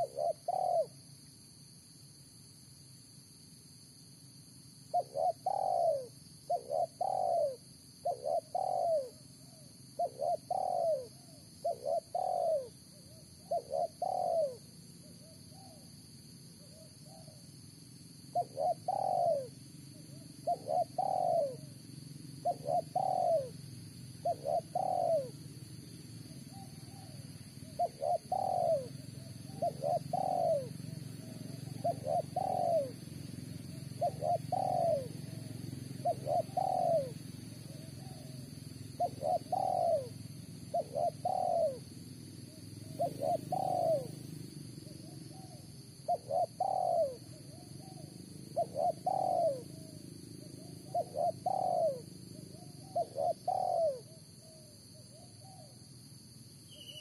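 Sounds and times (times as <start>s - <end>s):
dove cooing: 0.0s - 1.0s, 4.9s - 15.8s, 18.3s - 21.8s, 22.4s - 23.6s, 24.2s - 25.5s, 26.2s - 55.8s
high insect buzz: 0.0s - 57.0s.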